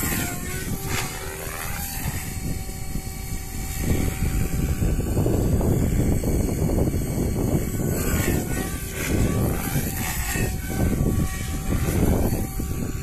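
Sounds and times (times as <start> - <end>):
rc helicopter rotor whine: 0.0 - 13.0
wind noise on microphone: 0.0 - 13.0.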